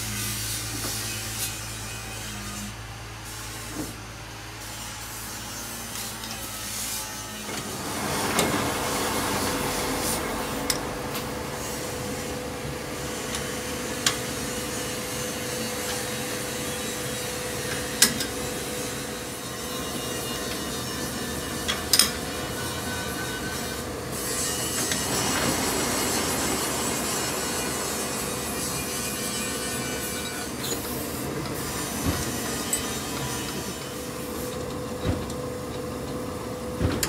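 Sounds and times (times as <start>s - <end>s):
rasping workshop machine noise: 0.0s - 37.0s.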